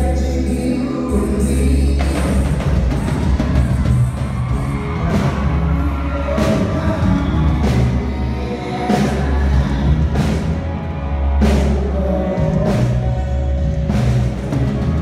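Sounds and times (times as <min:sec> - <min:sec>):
dark synth and bass music: 0:01.2 - 0:15.0.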